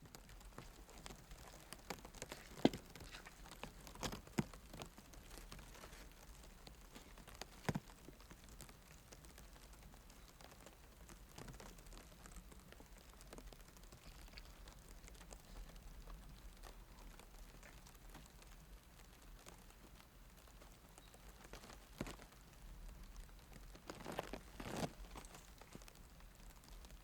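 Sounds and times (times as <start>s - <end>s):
fire embers crackling: 0.0s - 27.0s.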